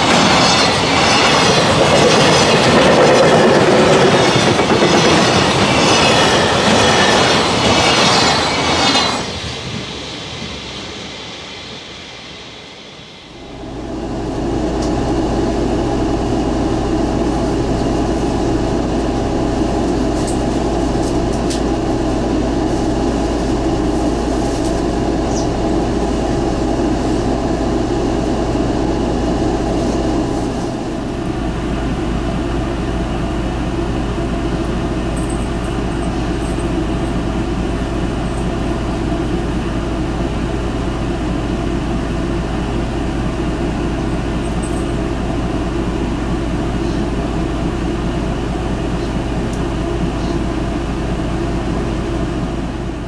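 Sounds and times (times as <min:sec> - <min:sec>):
bus engine running: 0:00.0 - 0:53.0.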